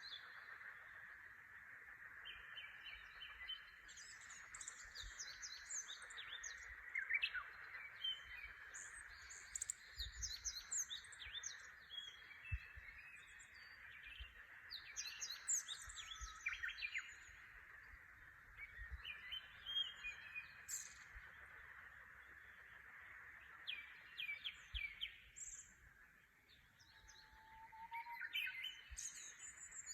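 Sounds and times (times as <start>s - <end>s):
birds singing dawn chorus: 0.0s - 29.9s.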